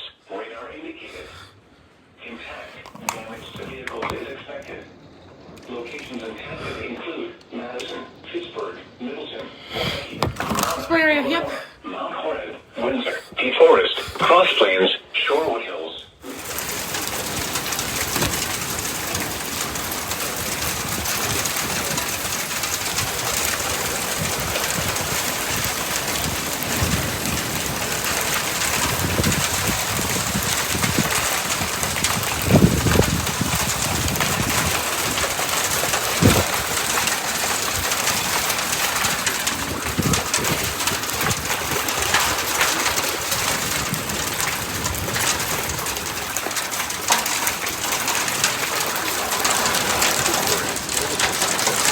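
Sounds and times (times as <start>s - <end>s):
heavy rain falling: 2.2s - 51.9s.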